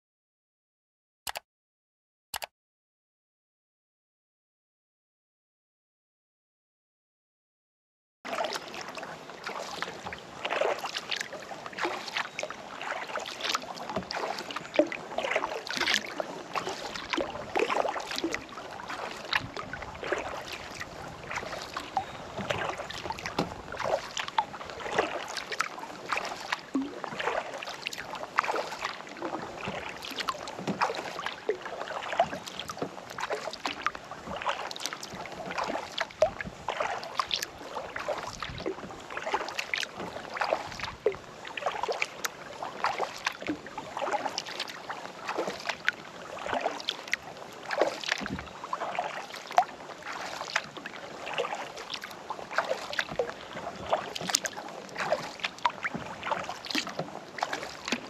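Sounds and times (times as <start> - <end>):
paddle splashing water: 8.3 - 58.0.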